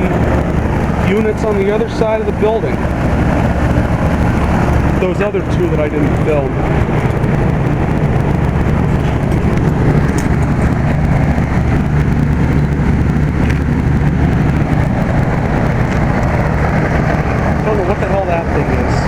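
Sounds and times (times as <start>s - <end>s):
air conditioner units humming: 0.0s - 19.0s
fan noise rushing: 0.0s - 19.0s.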